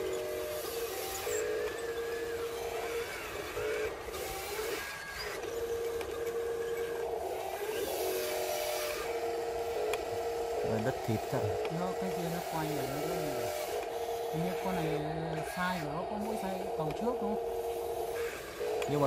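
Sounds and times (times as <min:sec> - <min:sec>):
toy electric motor whine: 0:00.0 - 0:19.0.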